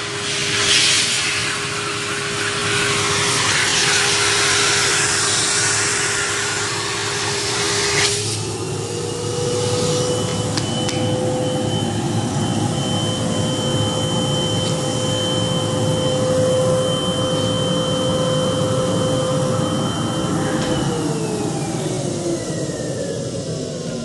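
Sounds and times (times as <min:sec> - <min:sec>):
vacuum cleaner motor whining: 0:00.0 - 0:24.0.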